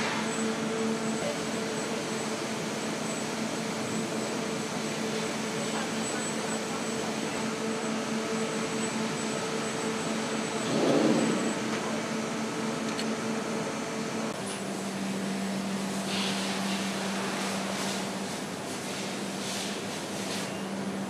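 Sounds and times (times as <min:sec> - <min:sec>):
foundry machinery hum: 0:00.0 - 0:21.0.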